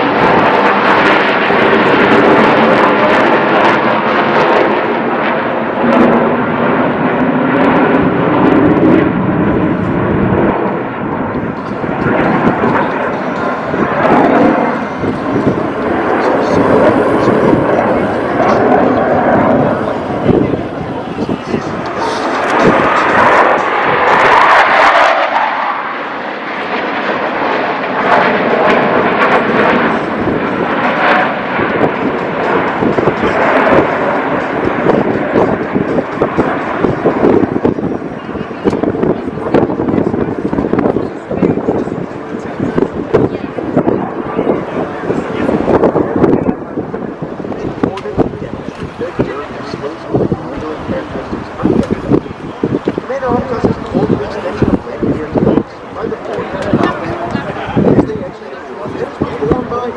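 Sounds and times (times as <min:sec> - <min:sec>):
aircraft flying past: 0:00.0 - 0:52.7.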